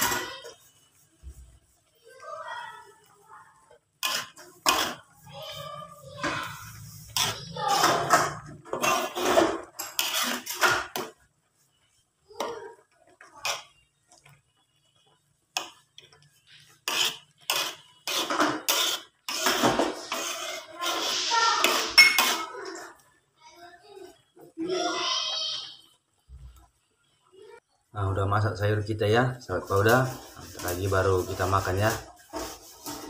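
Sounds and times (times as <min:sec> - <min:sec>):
metal spatula scraping a pan: 0:00.0 - 0:23.0, 0:29.6 - 0:33.0.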